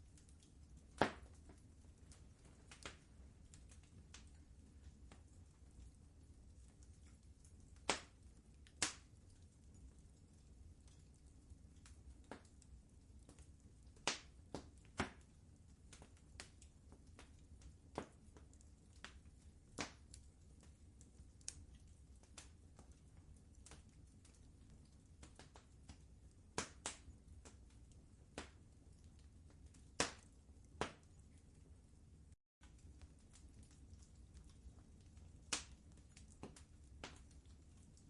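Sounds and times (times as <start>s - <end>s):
faint low rumble of fire: 0.0s - 38.0s
wood fire popping and snapping: 0.0s - 38.0s.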